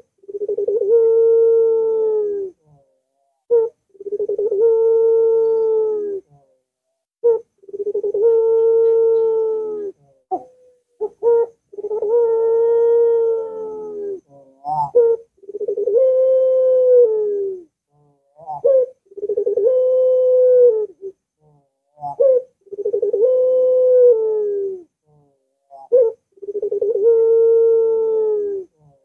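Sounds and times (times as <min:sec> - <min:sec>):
dove cooing: 0:00.0 - 0:02.7, 0:03.5 - 0:06.6, 0:07.2 - 0:21.2, 0:22.0 - 0:29.0.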